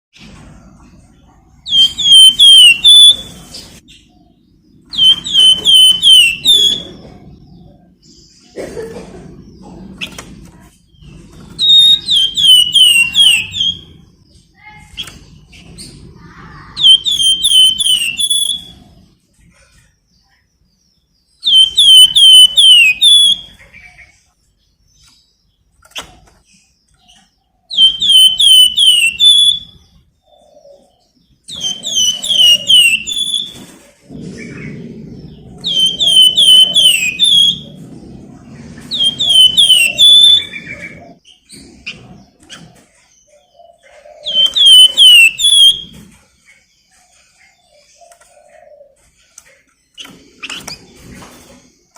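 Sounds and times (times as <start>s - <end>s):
bird singing downward chirps: 0.3s - 8.6s, 9.3s - 49.3s.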